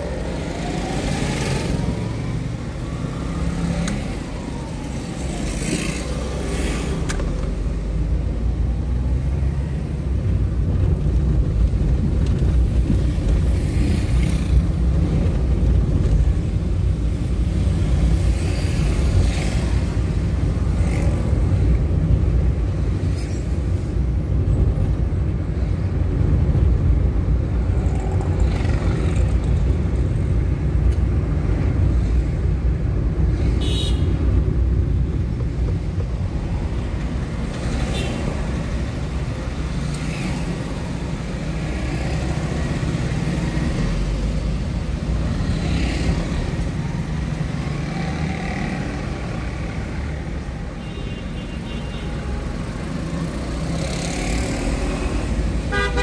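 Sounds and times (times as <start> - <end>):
passing traffic: 0.0 - 56.0.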